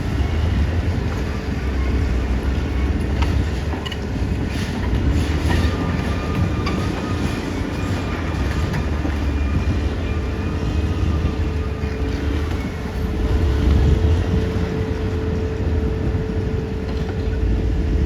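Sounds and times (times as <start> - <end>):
bulldozer diesel engine running: 0.0 - 18.0
steel tracks clanking and squealing: 0.0 - 18.0.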